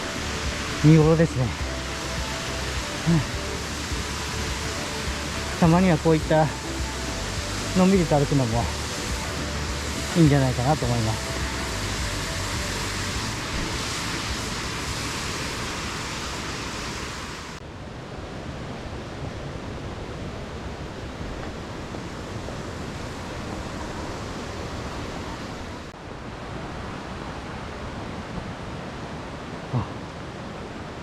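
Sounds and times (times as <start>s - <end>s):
steady outdoor rushing noise: 0.0s - 31.0s.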